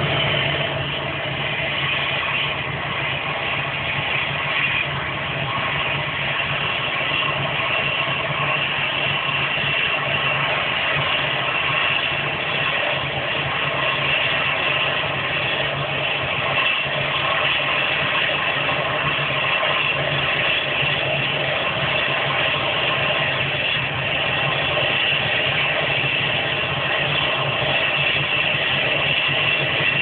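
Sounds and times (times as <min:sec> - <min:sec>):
jet engines idling: 0:00.0 - 0:30.0.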